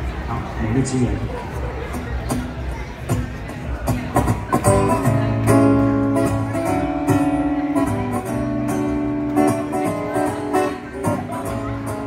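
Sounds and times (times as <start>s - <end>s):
acoustic guitar strumming: 1.9s - 12.0s.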